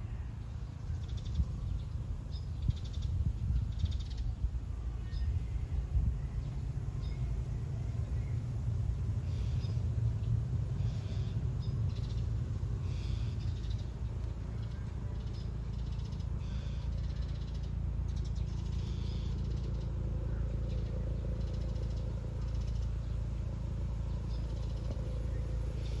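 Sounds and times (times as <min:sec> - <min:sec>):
small birds twittering: 0:00.0 - 0:26.0
steady low rumble: 0:00.0 - 0:26.0.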